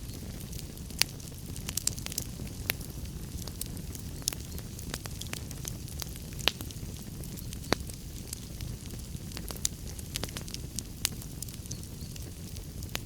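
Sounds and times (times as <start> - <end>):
fire crackling and popping: 0.0 - 13.0
fire rumbling in fireplace: 0.0 - 13.0.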